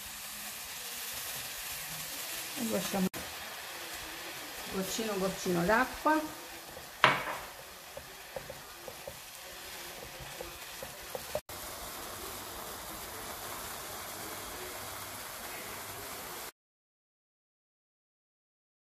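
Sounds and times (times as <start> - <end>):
food sizzling in frying pan: 0.0 - 16.5.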